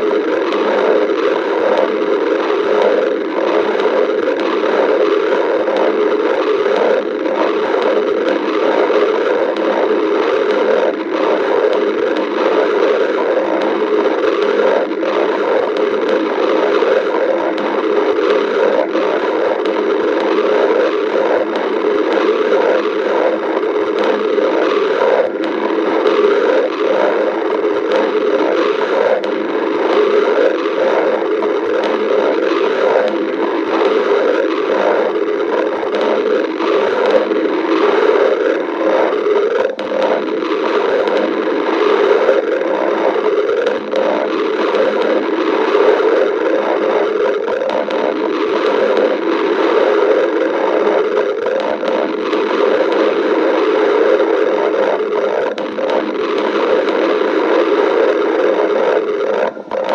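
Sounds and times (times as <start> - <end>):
stomach growling: 0.0 - 59.9.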